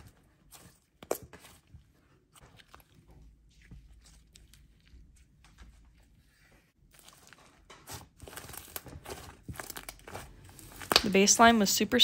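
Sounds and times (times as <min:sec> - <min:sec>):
hands squishing slime: 0:00.0 - 0:11.7.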